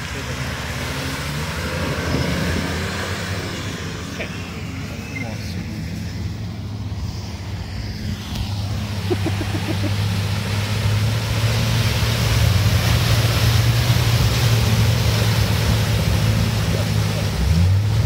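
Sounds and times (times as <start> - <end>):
vehicle engine running: 0.0 - 18.0
water splashing around vehicle: 0.0 - 18.0.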